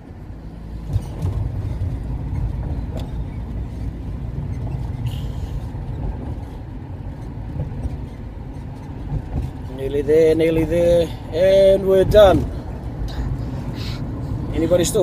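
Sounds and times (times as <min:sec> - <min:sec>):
car tyres and engine rumbling: 0:00.0 - 0:15.0.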